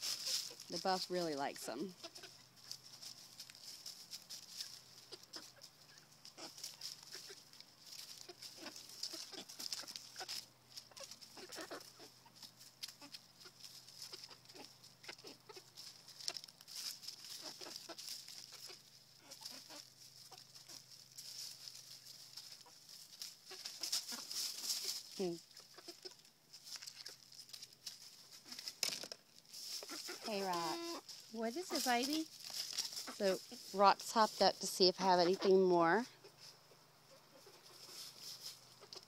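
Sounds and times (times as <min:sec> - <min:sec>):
hens clucking softly: 0:02.0 - 0:28.8, 0:29.7 - 0:32.1, 0:35.1 - 0:39.0.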